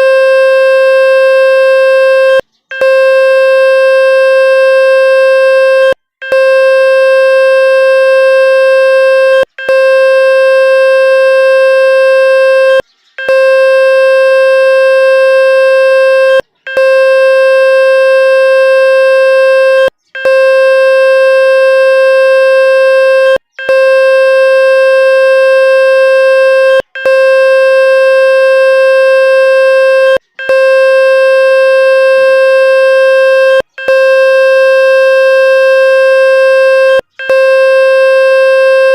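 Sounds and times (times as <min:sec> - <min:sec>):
loud electronic buzzing tone: 0:00.0 - 0:38.9.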